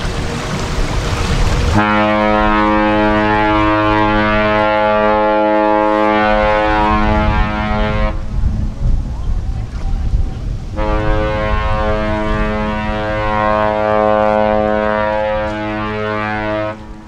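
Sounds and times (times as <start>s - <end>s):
ship horn blast: 0.0s - 8.4s, 10.8s - 17.0s
rushing noise: 0.0s - 17.0s.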